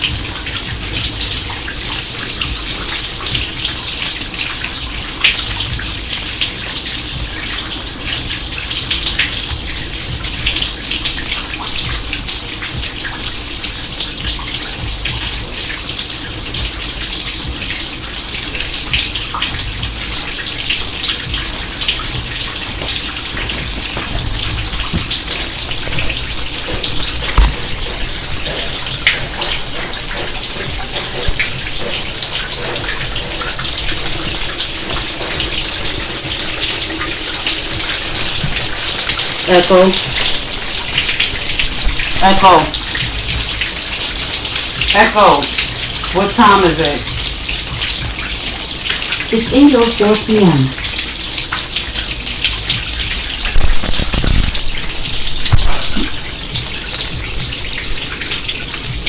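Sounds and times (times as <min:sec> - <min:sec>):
water drips: 0:00.0 - 0:59.0
water pouring and splashing in sink: 0:00.0 - 0:59.0.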